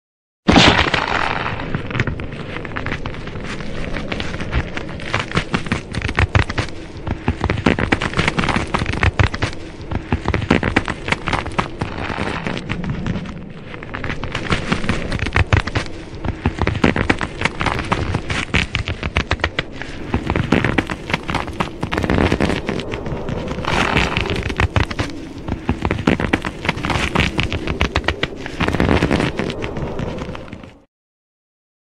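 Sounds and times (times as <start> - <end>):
dense crackling rumble: 0.5 - 30.9
steady low hum: 1.8 - 30.8.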